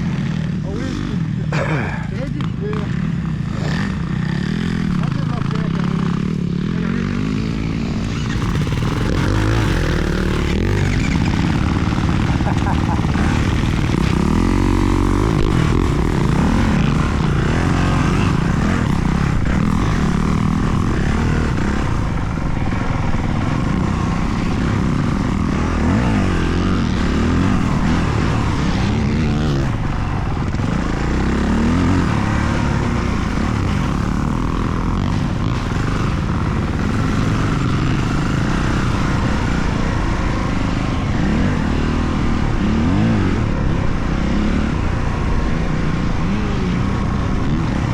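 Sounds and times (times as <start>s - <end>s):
dirt bike engines revving: 0.0s - 47.9s.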